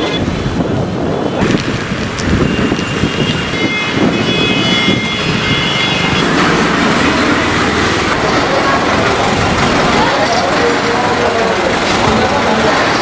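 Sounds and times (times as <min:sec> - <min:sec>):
disinfectant sprayer rushing: 0:01.7 - 0:13.0.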